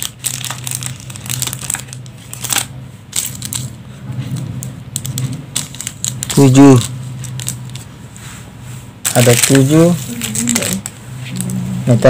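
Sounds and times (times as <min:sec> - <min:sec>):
plastic packs crinkling: 0:00.0 - 0:03.8, 0:04.4 - 0:07.9, 0:09.0 - 0:11.6.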